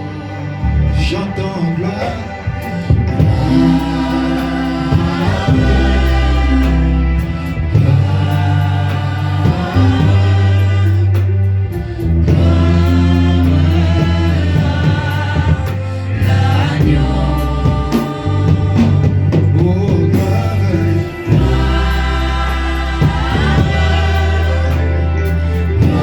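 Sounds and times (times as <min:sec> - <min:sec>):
choir singing gospel: 0:00.0 - 0:26.0
heavy sustained bass line: 0:00.0 - 0:26.0.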